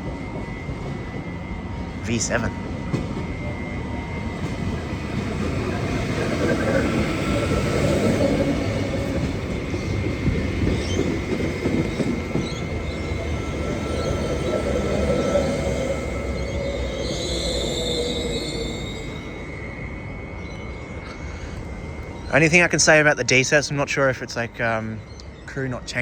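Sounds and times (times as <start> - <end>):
faint high squeals: 0.0 - 23.4
steady high tone: 0.0 - 24.5
train wheels rumbling on rails: 0.0 - 24.6.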